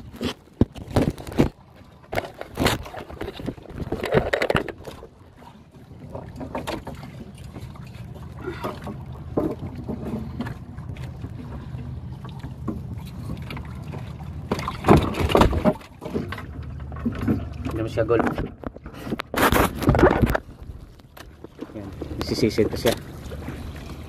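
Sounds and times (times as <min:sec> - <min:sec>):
knocks and scrapes on wooden hull: 0:00.0 - 0:23.8
boat engine running: 0:00.0 - 0:24.0.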